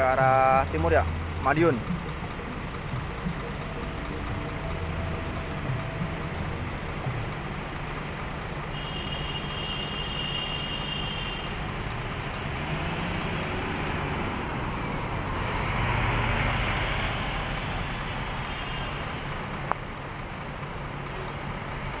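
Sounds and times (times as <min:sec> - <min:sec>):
bus engine driving past: 0:00.0 - 0:08.9, 0:11.5 - 0:22.0.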